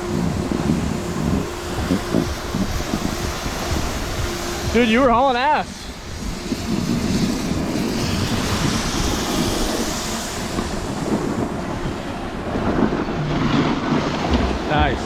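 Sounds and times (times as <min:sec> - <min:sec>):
snowboard rushing over snow: 0:00.0 - 0:15.0
wind buffeting microphone: 0:00.0 - 0:15.0.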